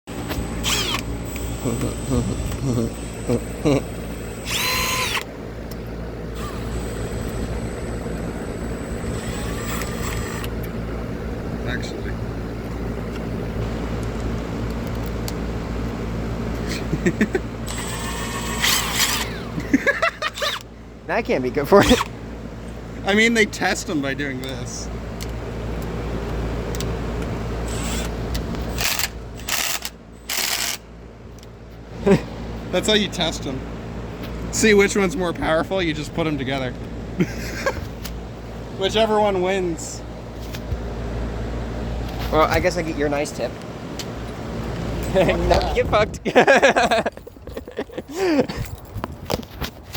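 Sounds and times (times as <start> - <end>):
low steady hum: 0.1 - 49.8
low mechanical drone: 0.1 - 49.9.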